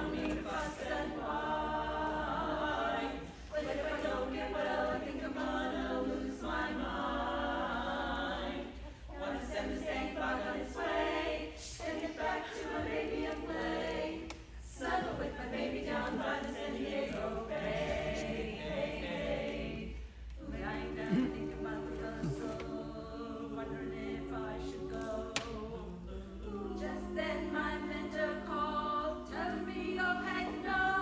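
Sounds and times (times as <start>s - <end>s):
women singing a cappella in harmony: 0.0s - 31.0s.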